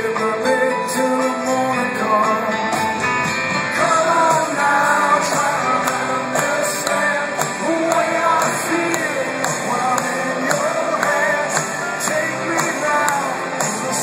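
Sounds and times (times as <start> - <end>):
live rock band playing: 0.0 - 14.0
man singing: 0.0 - 14.0.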